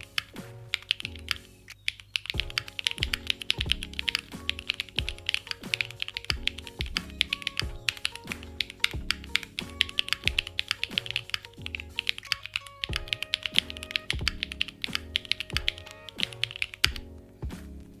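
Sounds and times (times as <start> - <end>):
mechanical keyboard typing: 0.0 - 17.1
background music with bass: 2.4 - 18.0.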